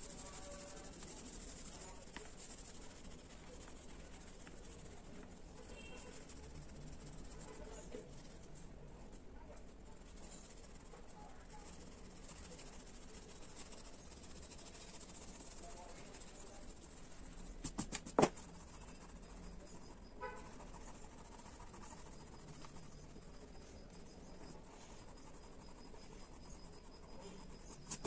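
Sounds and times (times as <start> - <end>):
pastel rubbing on paper: 0.0 - 28.0.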